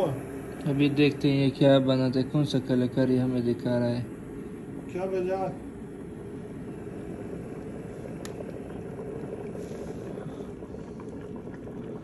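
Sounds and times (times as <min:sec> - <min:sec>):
water bubbling to a boil: 0:00.0 - 0:12.0.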